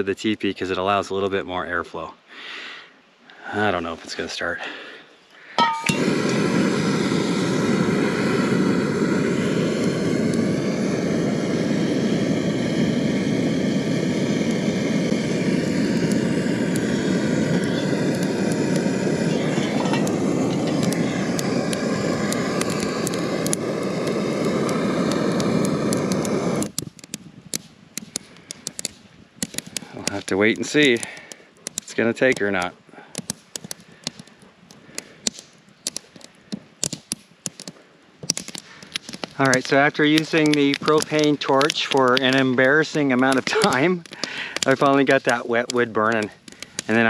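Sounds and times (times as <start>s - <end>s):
propane torch hissing: 4.2s - 26.8s, 28.0s - 35.3s, 38.4s - 47.0s.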